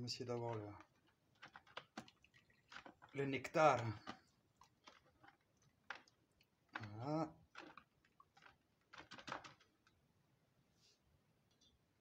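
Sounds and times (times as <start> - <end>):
wet cloth squelching: 0.0 - 9.6.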